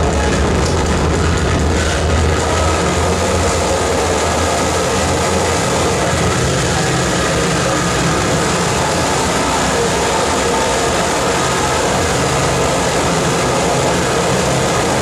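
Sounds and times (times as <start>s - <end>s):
harsh static noise: 0.0s - 15.0s
heavy low rumble: 0.0s - 15.0s.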